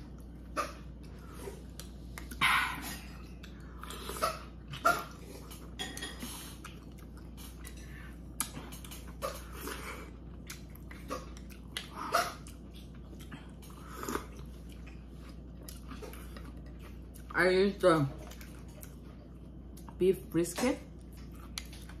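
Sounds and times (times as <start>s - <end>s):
chewing: 0.0s - 17.4s, 18.1s - 20.0s, 20.9s - 22.0s.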